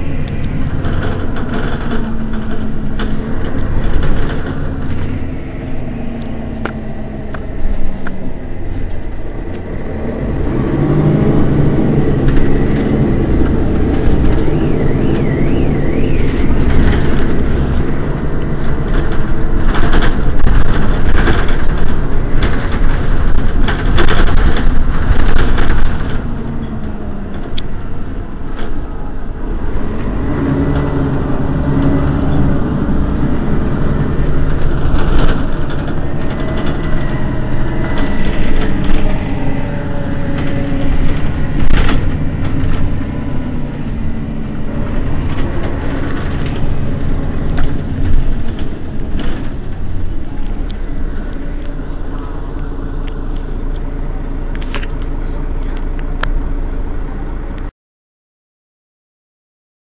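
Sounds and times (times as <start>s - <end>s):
bus engine idling: 0.0s - 57.7s.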